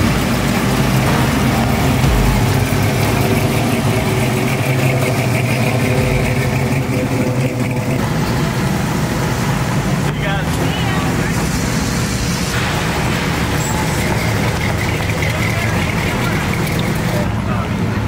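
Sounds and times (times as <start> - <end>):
pickup truck engine rumbling: 0.0 - 18.0.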